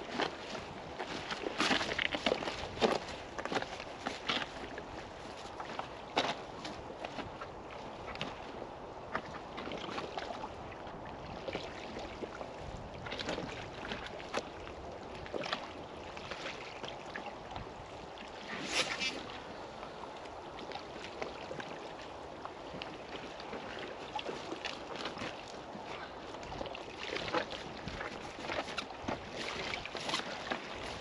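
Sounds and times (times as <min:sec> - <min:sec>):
steady wind: 0:00.0 - 0:31.0
water lapping against rock: 0:00.0 - 0:31.0.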